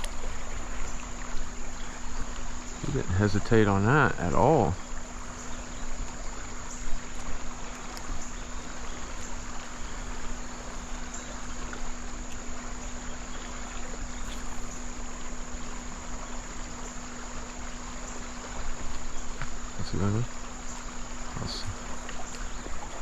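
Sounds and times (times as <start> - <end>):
creek water rushing: 0.0 - 23.0
insects trilling: 0.0 - 23.0
low steady hum: 0.0 - 23.0.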